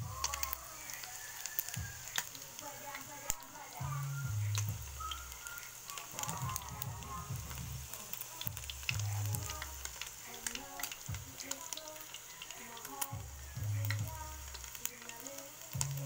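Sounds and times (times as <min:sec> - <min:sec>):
background music: 0:00.0 - 0:16.0
food sizzling in hot oil: 0:00.0 - 0:16.0.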